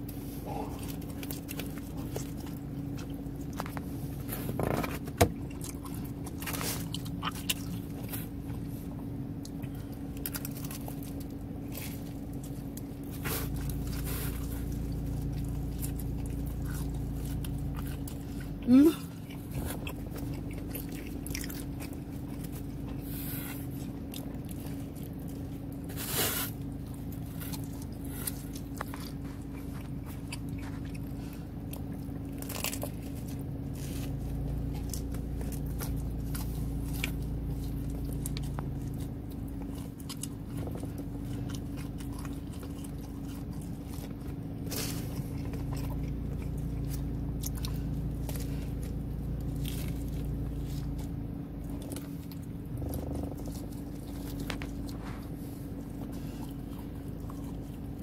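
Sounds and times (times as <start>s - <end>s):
crust crunching: 0.0s - 58.0s
low hum: 0.0s - 58.0s
person chewing pizza: 0.0s - 58.0s.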